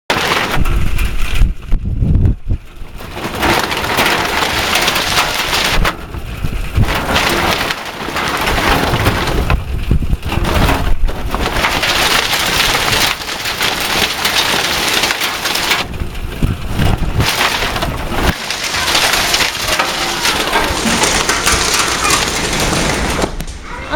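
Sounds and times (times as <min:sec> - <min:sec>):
hail pelting hard surfaces: 0:00.1 - 0:23.9.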